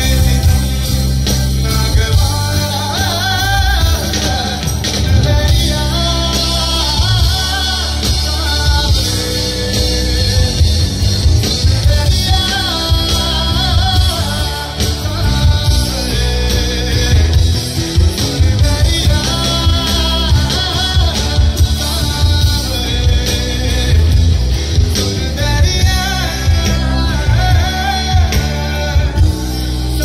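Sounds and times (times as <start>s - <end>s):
drum kit: 0.0s - 30.0s
electric guitars: 0.0s - 30.0s
lead melody line: 0.0s - 30.0s.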